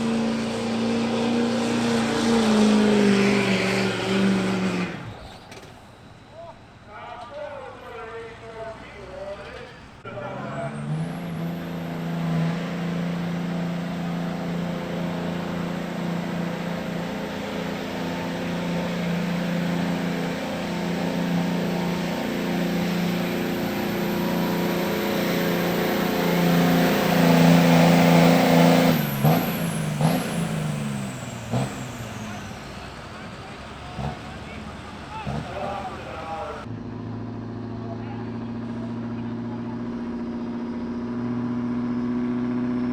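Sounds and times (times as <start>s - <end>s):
diesel engine drone: 0.0s - 42.9s.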